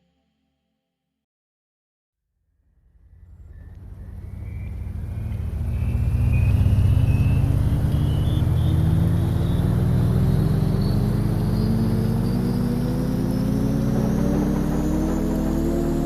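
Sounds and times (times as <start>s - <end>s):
vehicle engine speeding up: 2.8s - 16.0s.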